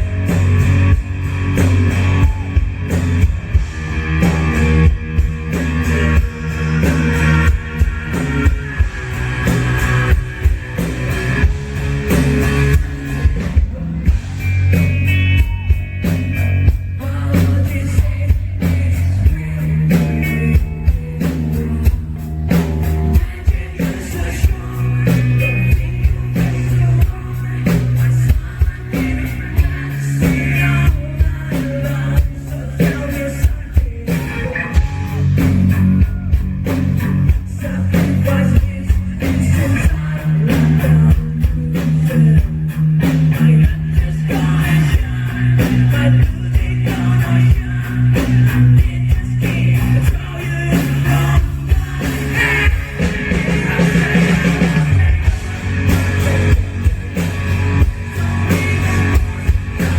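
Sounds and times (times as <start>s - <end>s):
heavy bass line: 0.0s - 59.9s
rock band playing: 0.0s - 59.9s.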